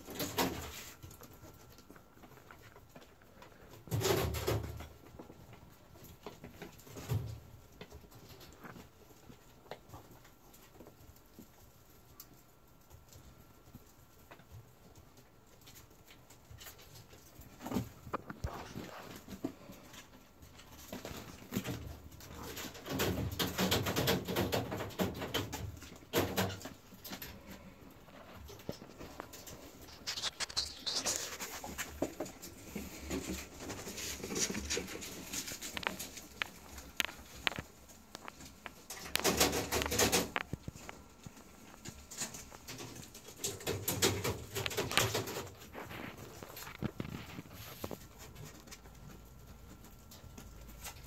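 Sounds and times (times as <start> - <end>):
animals scuffling: 0.0 - 51.0
small feet scratching and pattering: 0.0 - 51.0.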